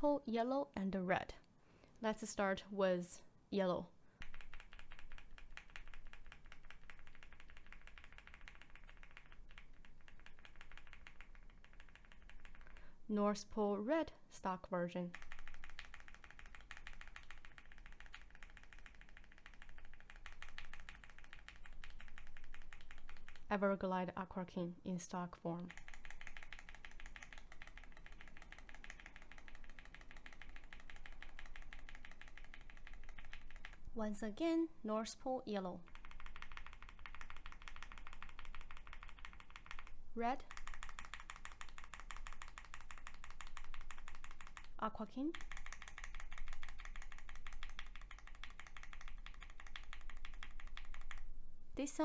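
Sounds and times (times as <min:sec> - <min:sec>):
rapid mechanical keyboard typing: 0:04.2 - 0:14.0, 0:15.0 - 0:24.4, 0:25.5 - 0:34.4, 0:35.8 - 0:51.3.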